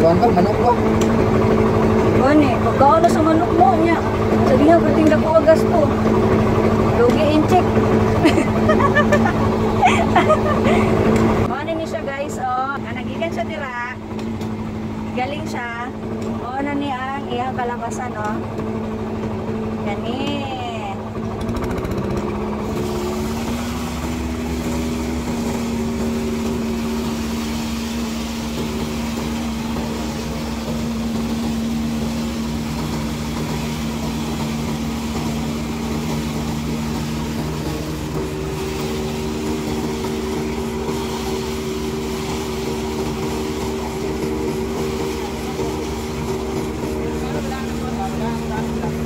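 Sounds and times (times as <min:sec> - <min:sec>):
threshing machinery clattering: 0:00.0 - 0:11.5, 0:14.1 - 0:49.0
thresher engine hum: 0:00.0 - 0:49.0.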